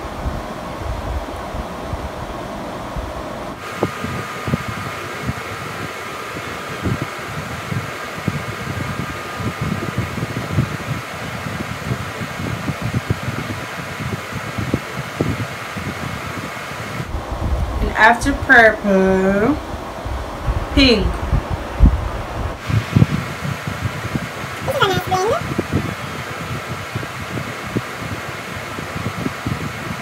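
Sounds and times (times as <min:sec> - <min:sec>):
fan whirring: 0:00.0 - 0:30.0.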